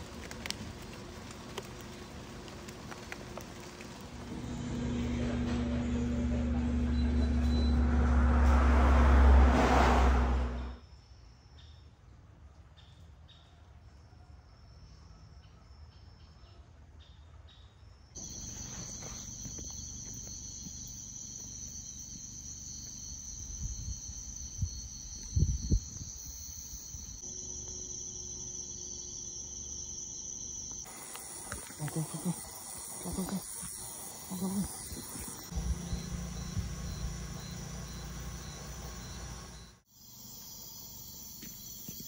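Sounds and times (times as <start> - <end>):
night insects chirring: 0.0 - 12.0, 12.8 - 42.0.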